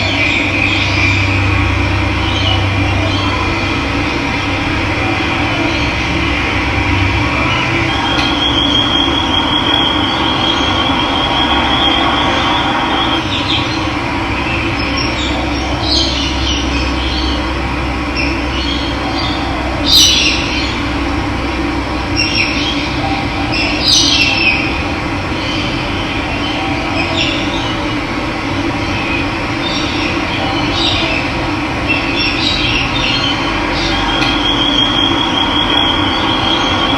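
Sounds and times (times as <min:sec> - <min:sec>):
steady high trill: 0:00.0 - 0:25.3, 0:30.1 - 0:36.9
birds chirping: 0:00.0 - 0:36.9.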